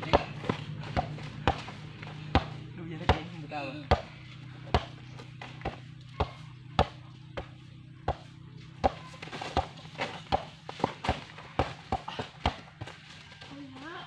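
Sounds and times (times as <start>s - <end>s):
basketball bouncing on dirt: 0.0s - 13.4s.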